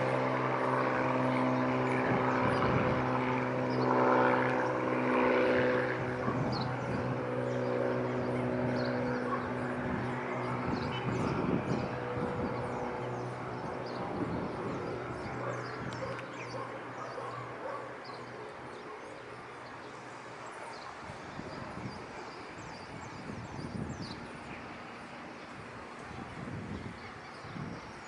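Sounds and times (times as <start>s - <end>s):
piston aircraft engine idling: 0.0s - 28.0s.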